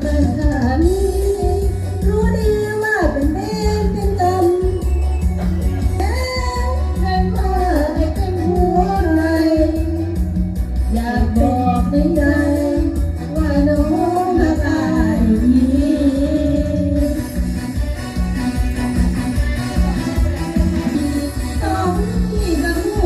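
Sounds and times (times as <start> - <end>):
backing music with bass beat: 0.0 - 23.0.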